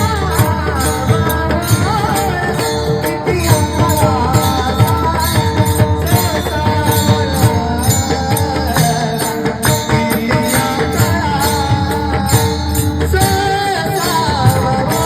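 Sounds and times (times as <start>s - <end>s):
percussion strokes: 0.0s - 15.0s.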